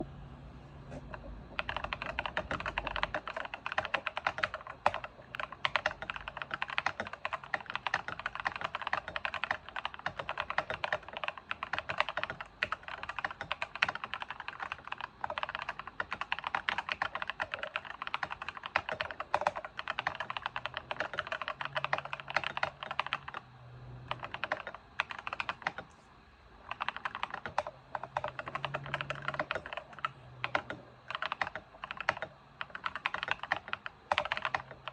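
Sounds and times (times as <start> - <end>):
mechanical keyboard typing: 1.0 - 25.9, 26.6 - 34.9.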